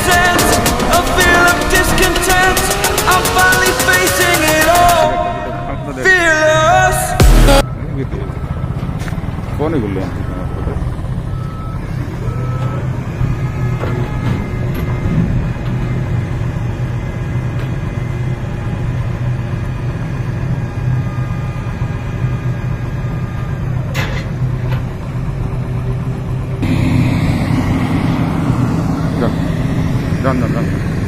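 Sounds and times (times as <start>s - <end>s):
construction site din: 0.0s - 31.0s
diesel engine droning: 0.0s - 31.0s.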